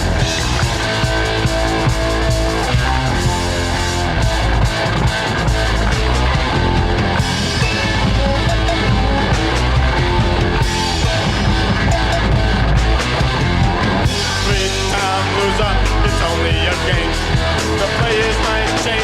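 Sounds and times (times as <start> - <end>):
bass guitar: 0.0 - 19.0
drum kit playing steady beat: 0.0 - 19.0
electric guitar: 0.0 - 19.0.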